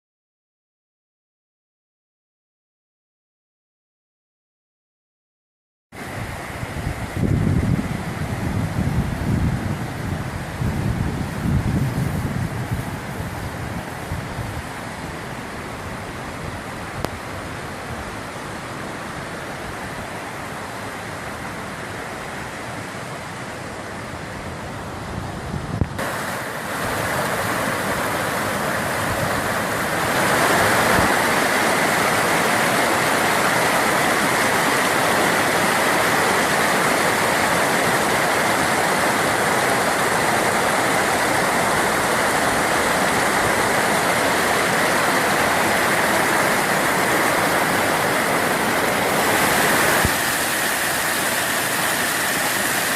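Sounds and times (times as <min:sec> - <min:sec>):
waterfall roaring: 0:06.0 - 0:52.9.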